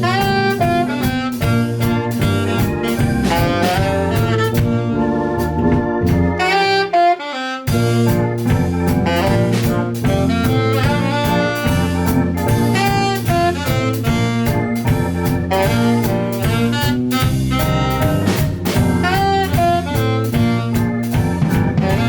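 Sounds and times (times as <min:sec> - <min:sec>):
drum kit steady beat: 0:00.0 - 0:07.0, 0:07.7 - 0:22.0
walking bass: 0:00.0 - 0:07.1, 0:07.7 - 0:22.0
saxophone melody: 0:00.0 - 0:22.0.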